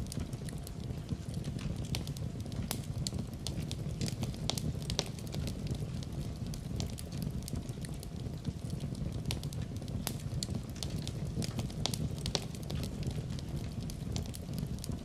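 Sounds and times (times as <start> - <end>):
fire pops and snaps: 0.0 - 15.0
low rumble of flames: 0.0 - 15.0.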